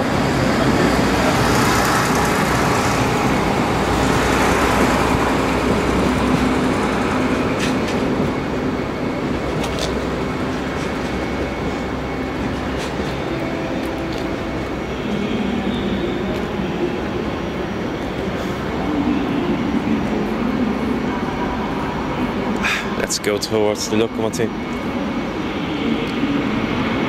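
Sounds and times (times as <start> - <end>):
train hum and rush: 0.0 - 27.0.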